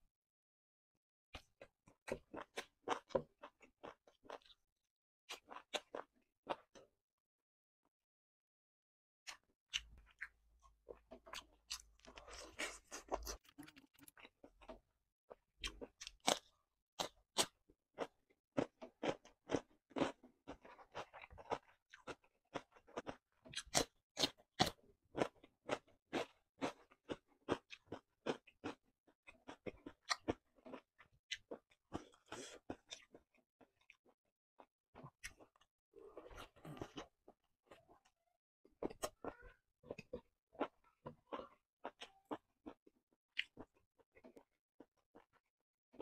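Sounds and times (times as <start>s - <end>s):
person chewing with crunches: 1.6s - 4.6s, 5.3s - 6.8s, 9.3s - 34.2s, 35.0s - 38.1s, 38.8s - 46.0s.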